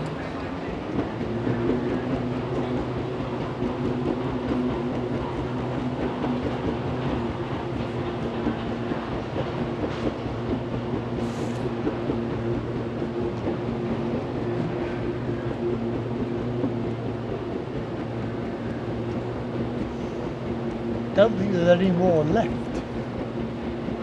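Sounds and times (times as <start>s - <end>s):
moving walkway hum and rumble: 0.0s - 24.0s.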